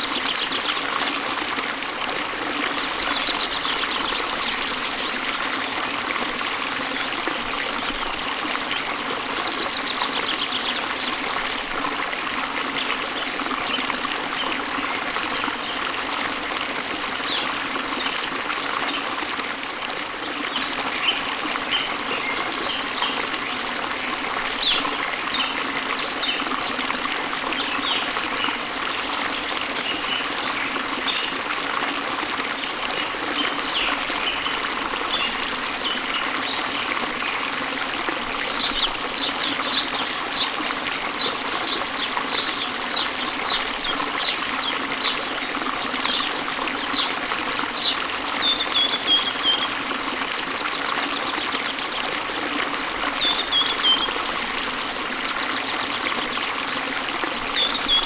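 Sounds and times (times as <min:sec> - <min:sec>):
waterfall running water: 0:00.0 - 0:58.0.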